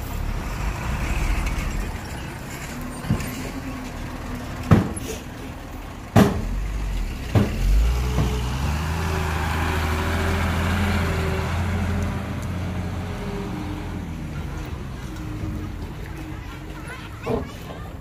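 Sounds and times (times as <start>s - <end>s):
diesel engine revving: 0.0s - 16.7s.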